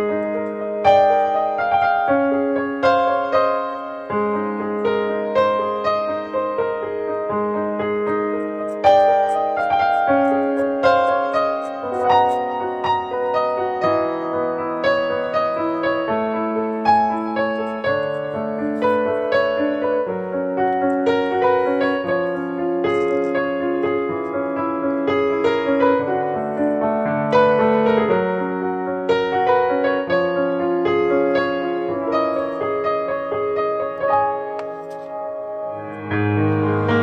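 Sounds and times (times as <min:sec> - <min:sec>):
background piano music: 0:00.0 - 0:37.0.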